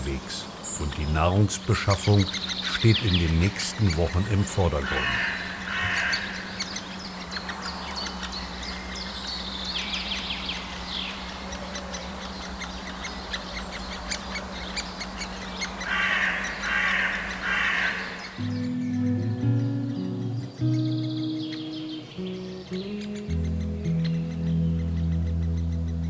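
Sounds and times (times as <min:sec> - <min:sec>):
harsh bird call bursts: 0:00.0 - 0:24.8
woodpecker nestlings chattering: 0:00.0 - 0:26.0.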